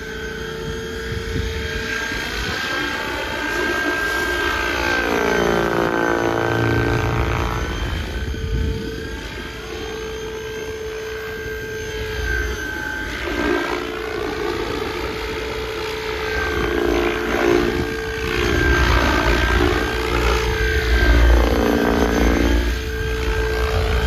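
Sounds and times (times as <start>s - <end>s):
rc helicopter rotor whine: 0.0s - 24.0s.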